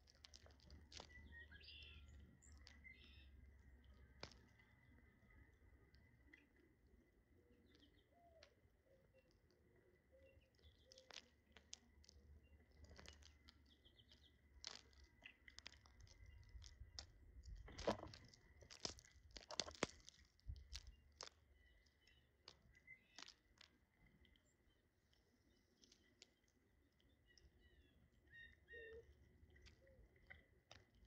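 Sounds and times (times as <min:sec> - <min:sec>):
birds pecking at food: 0:00.0 - 0:31.0
soft bird chirps: 0:00.0 - 0:31.0.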